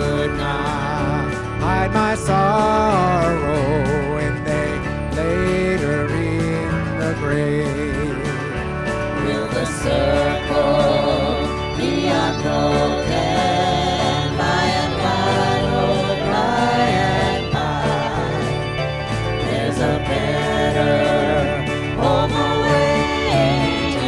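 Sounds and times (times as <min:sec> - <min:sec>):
country gospel band playing: 0:00.0 - 0:24.0
steady bass line: 0:00.0 - 0:24.0
voices singing: 0:00.0 - 0:24.0.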